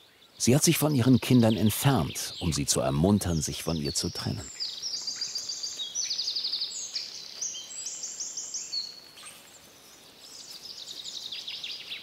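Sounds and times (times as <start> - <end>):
songbirds trilling: 0.0 - 12.0.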